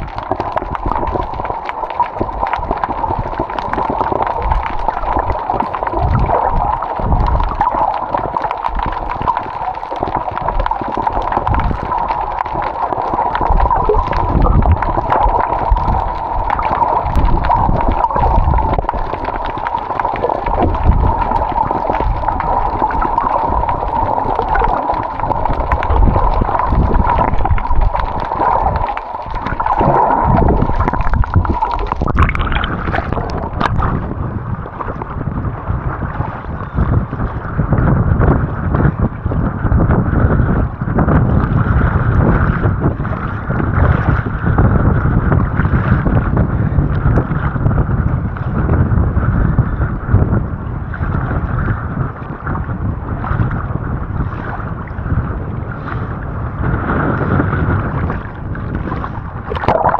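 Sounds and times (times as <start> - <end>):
low rumbling: 0.0 - 59.9
muffled underwater gurgling: 0.0 - 59.9.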